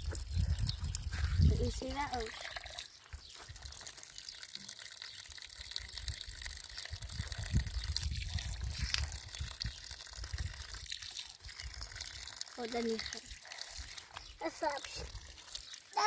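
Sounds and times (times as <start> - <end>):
water running from tap: 0.0 - 16.0.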